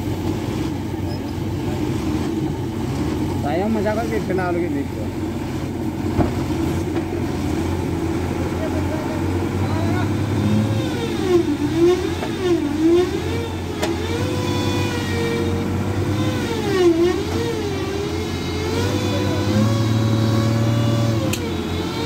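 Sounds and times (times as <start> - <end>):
diesel engines straining: 0.0 - 22.0.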